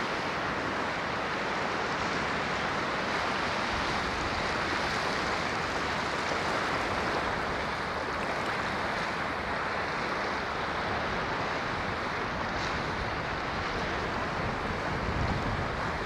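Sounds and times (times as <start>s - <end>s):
ocean waves on shore: 0.0s - 16.0s.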